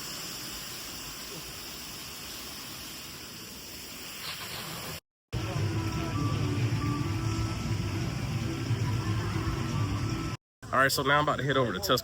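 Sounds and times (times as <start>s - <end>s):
steady hissing background noise: 0.0s - 10.4s.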